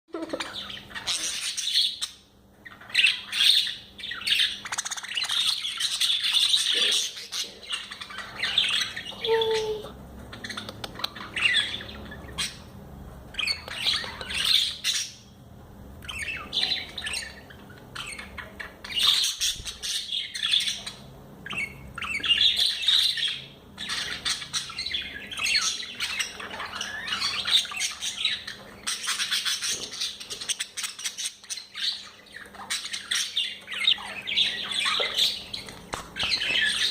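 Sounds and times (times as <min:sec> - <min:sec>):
budgerigars chattering and chirping: 0:00.2 - 0:15.4, 0:16.0 - 0:36.9.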